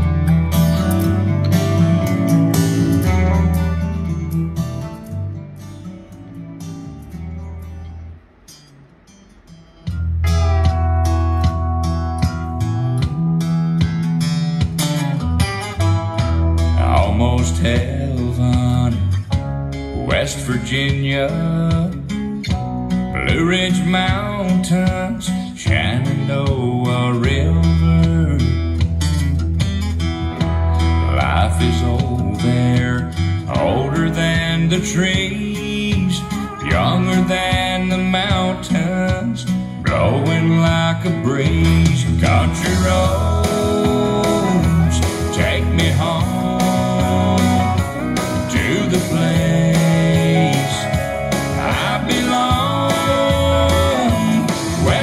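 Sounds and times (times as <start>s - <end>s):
guitar music through speaker: 0.0s - 55.0s.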